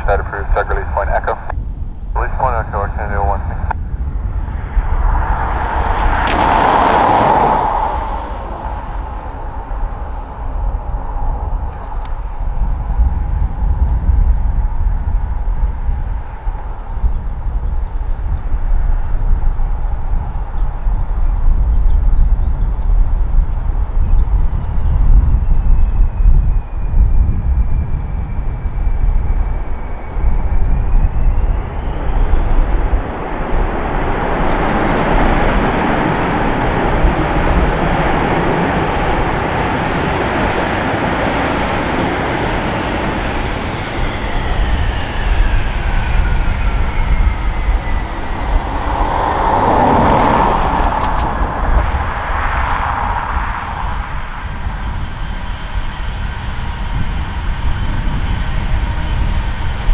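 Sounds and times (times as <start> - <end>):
jet engines reverse thrust roar: 0.0 - 59.9
rush of noise: 0.0 - 59.9.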